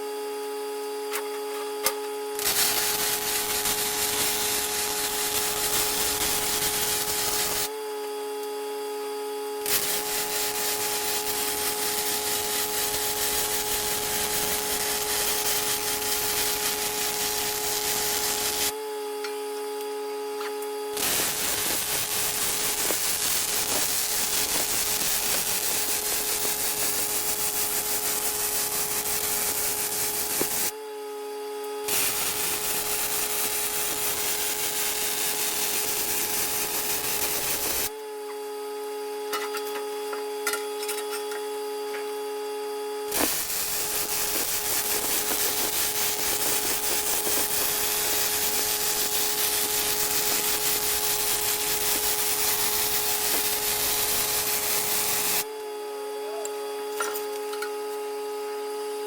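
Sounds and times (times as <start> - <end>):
power tool whine: 0.0 - 59.0.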